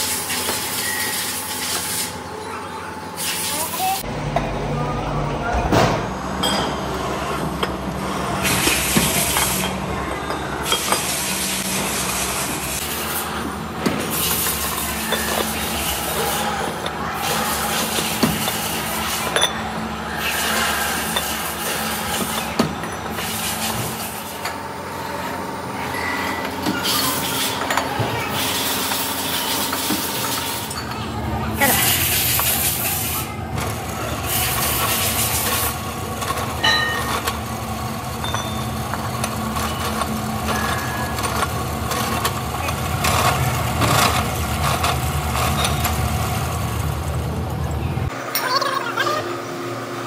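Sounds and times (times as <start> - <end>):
drill press droning: 4.0 - 48.2.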